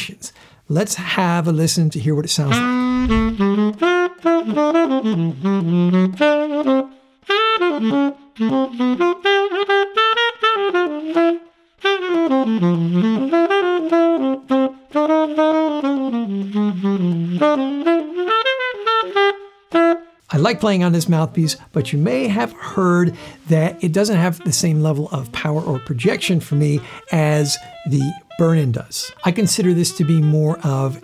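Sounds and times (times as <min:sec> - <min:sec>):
tenor saxophone playing jazz: 0:02.4 - 0:31.0.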